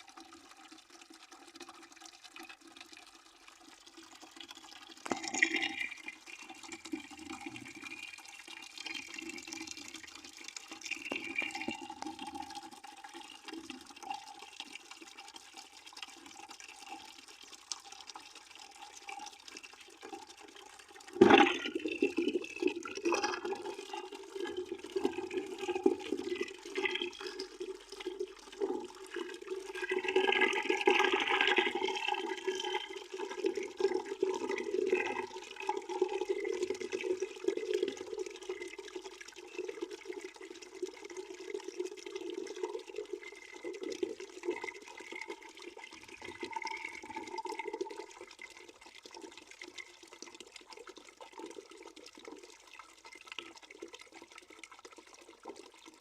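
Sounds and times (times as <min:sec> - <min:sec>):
water pouring into bucket: 0:00.0 - 0:56.0.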